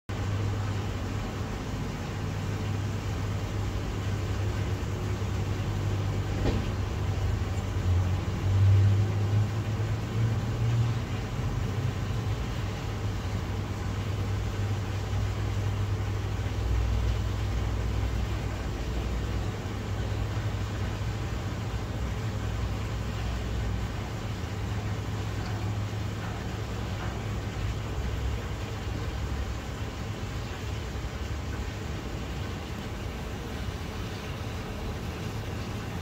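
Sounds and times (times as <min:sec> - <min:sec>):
waterfall rumble underwater: 0:00.1 - 0:36.0.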